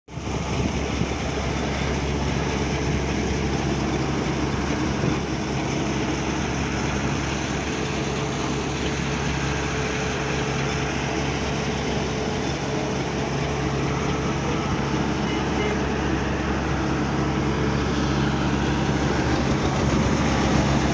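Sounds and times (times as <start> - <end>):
engine running steadily: 0.1 - 20.9.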